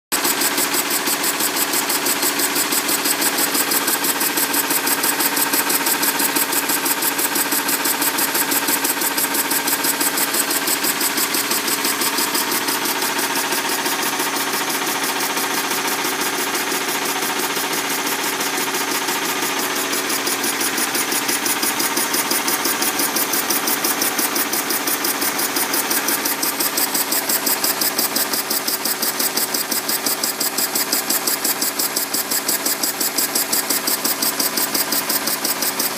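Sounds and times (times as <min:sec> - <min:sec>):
steam engine running: 0:00.2 - 0:35.9.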